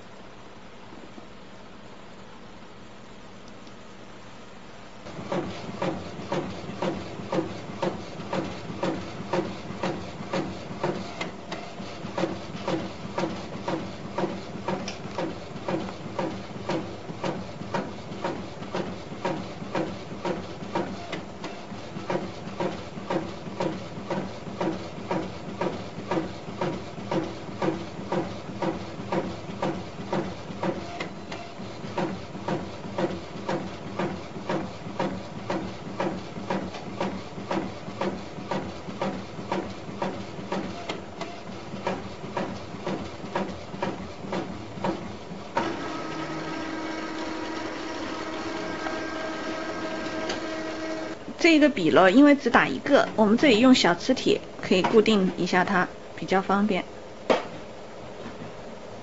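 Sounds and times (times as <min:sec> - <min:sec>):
printer carriage whirring: 0:05.0 - 0:56.0.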